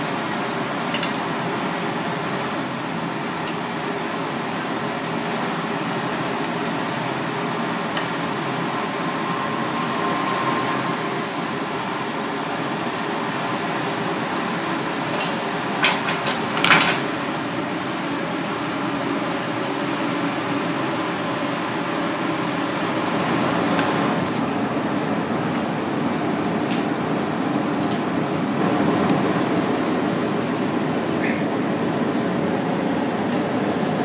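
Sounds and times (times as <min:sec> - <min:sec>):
kitchen ventilation humming: 0:00.0 - 0:34.0.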